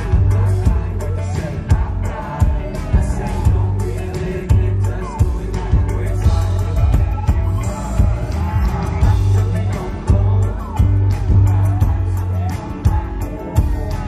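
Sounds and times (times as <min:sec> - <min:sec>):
drum beat: 0:00.0 - 0:14.0
live band music: 0:00.0 - 0:14.0
man singing: 0:00.0 - 0:14.0.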